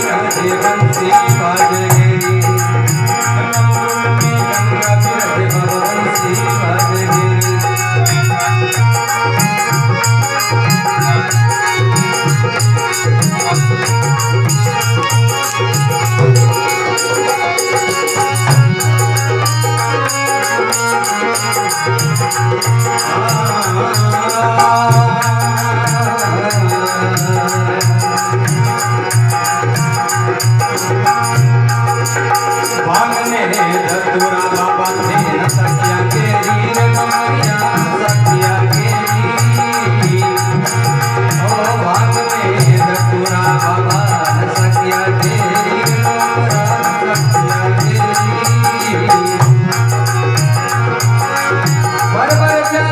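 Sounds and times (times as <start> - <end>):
fast rattling percussion beat: 0.0 - 52.9.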